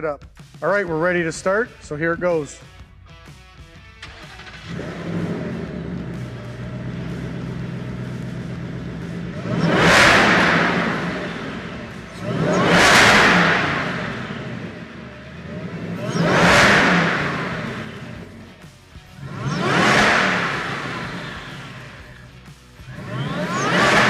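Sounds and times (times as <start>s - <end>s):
car engine idling and revving: 2.7s - 24.0s.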